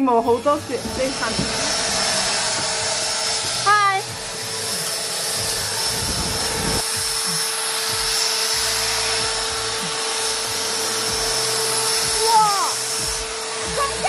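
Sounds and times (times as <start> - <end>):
electric leaf blower running: 0.0 - 14.0.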